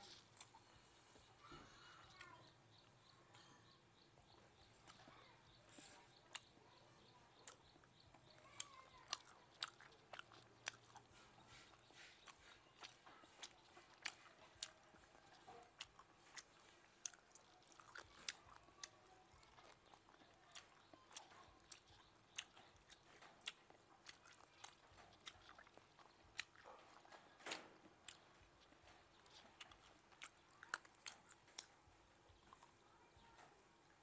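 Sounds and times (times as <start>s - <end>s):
chewing and biting meat: 4.0s - 32.8s.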